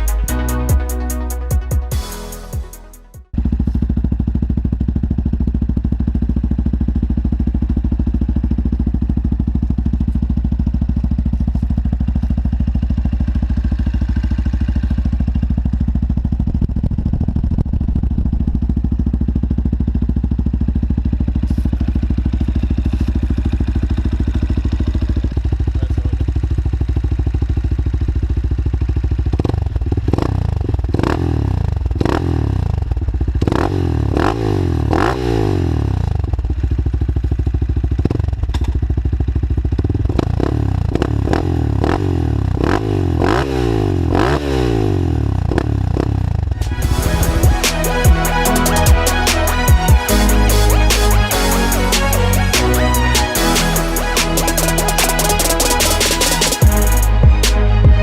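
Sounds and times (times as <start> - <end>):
motorcycle engine idling: 3.3 - 44.3, 45.0 - 53.1
motorcycle engine revving: 3.3 - 58.0.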